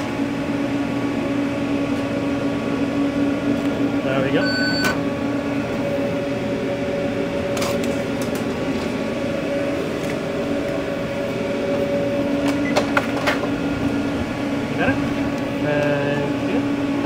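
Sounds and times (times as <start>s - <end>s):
kitchen machinery hum: 0.0s - 17.0s.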